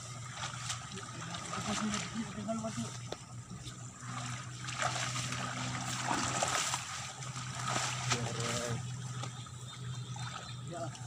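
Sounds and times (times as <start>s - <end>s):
steady low hum: 0.0s - 11.0s
water splashing and sloshing: 0.0s - 11.0s.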